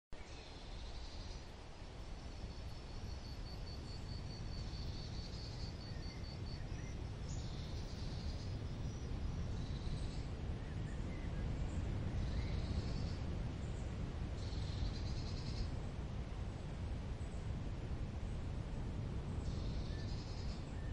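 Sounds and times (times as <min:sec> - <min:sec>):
small birds chirping: 0:00.2 - 0:15.8, 0:19.3 - 0:20.9
low outdoor rumble: 0:00.2 - 0:20.9.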